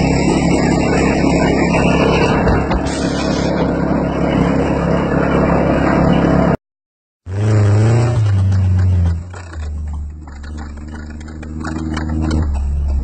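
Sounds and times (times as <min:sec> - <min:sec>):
small petrol engine running: 0:00.0 - 0:06.6, 0:07.3 - 0:13.0
wavering sound with deep hum: 0:00.0 - 0:06.6, 0:07.3 - 0:13.0.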